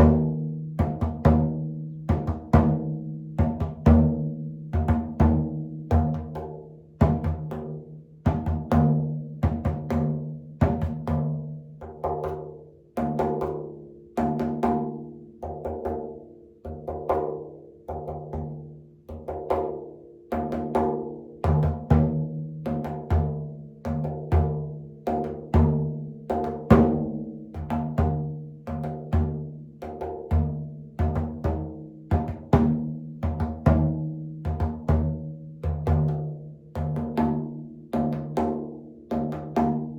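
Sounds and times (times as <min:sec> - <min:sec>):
frame drum beat: 0:00.0 - 0:39.9.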